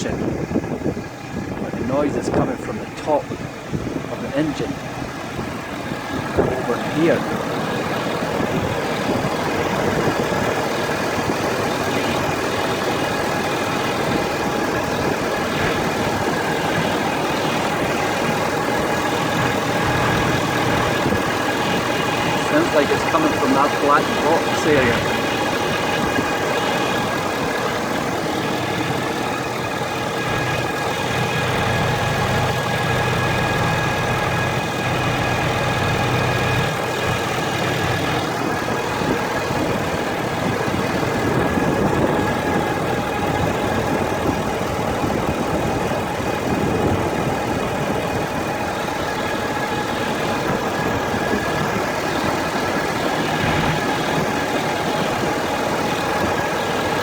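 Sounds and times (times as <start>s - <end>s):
diesel engine idling: 0.0s - 57.0s
steady engine whine: 0.0s - 57.0s.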